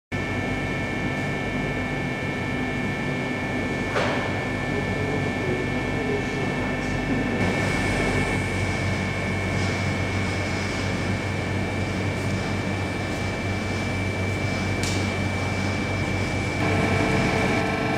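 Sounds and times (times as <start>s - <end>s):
machine hum with high whine: 0.1s - 17.9s.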